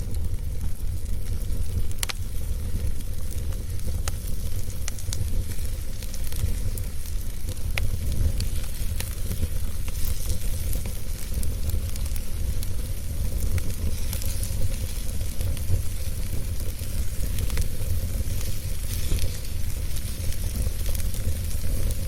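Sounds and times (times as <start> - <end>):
wood crackling and popping: 0.0 - 22.0
wood fire roaring: 0.0 - 22.0.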